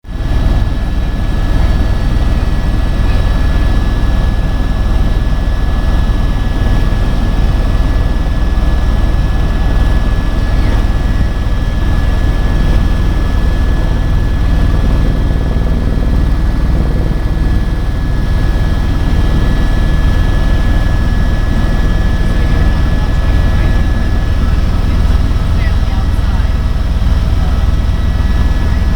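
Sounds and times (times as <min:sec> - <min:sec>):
helicopter rotor and engine drone: 0:00.0 - 0:28.9
thin steady whine: 0:00.1 - 0:28.9.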